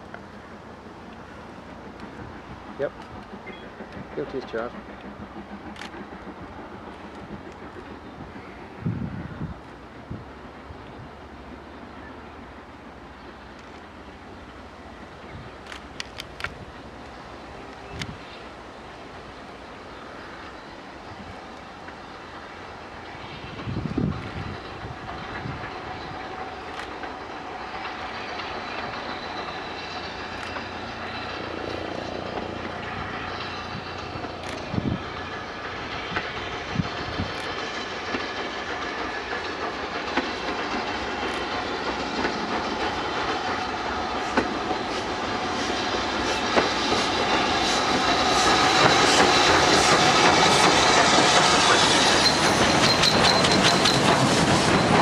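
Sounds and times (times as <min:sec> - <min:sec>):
steam train passing: 0:00.0 - 0:55.0
train wheels clicking over rail joints: 0:00.0 - 0:55.0.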